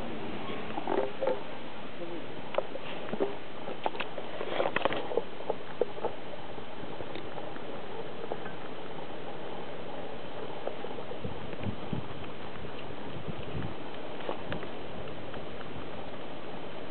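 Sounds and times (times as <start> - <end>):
steady hiss: 0.0 - 16.9.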